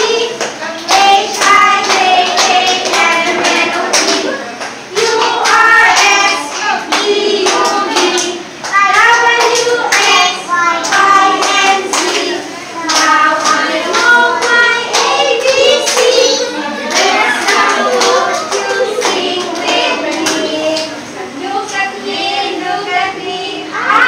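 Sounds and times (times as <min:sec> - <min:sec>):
children singing: 0:00.0 - 0:24.0.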